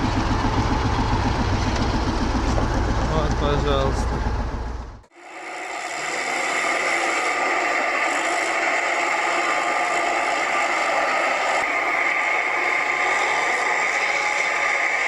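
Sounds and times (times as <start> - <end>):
heavy truck rattling whir: 0.0 - 5.1, 5.9 - 15.0.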